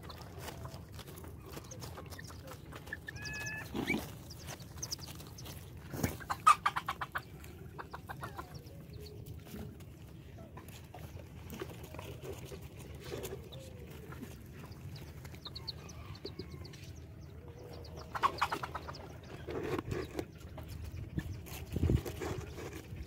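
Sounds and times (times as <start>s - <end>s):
chicken clucking: 0.0s - 23.0s.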